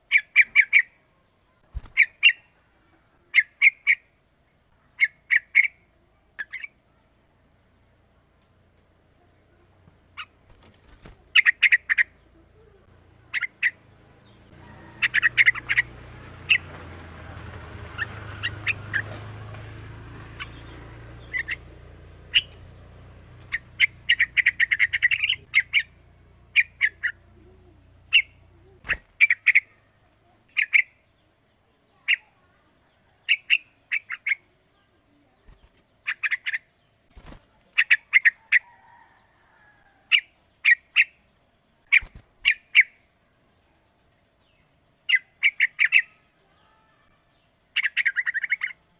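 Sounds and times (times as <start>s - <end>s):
bird chirping: 0.0s - 7.2s, 11.1s - 48.9s.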